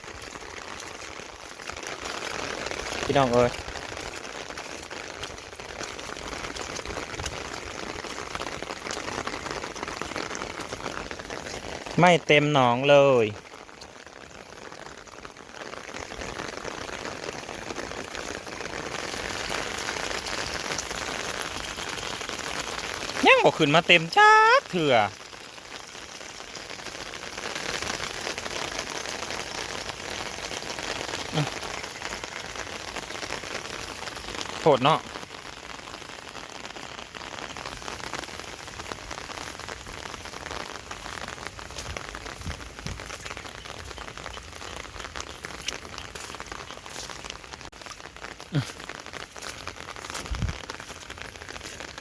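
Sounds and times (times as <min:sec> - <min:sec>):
heavy rain hissing: 0:00.0 - 0:52.0
raindrop hits: 0:00.0 - 0:52.0.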